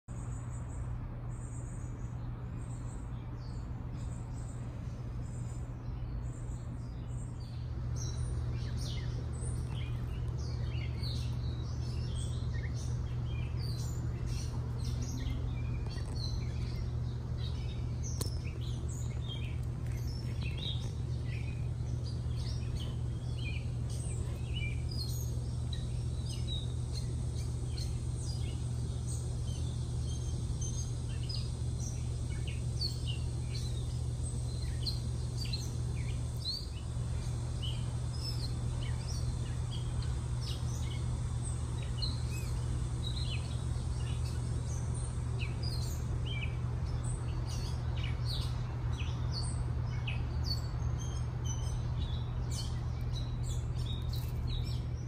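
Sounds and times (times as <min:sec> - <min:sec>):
birds chirping: 0:00.1 - 0:55.0
steady low hum: 0:00.1 - 0:55.0.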